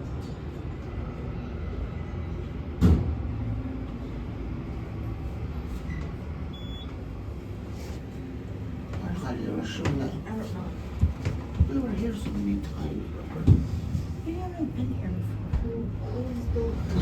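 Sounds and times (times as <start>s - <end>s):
elevator mechanical hum: 0.0s - 17.0s.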